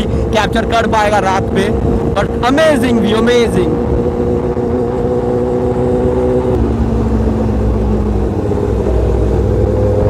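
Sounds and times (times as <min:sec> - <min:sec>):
motorcycle engine running: 0:00.0 - 0:10.0
wind rush: 0:01.3 - 0:10.0.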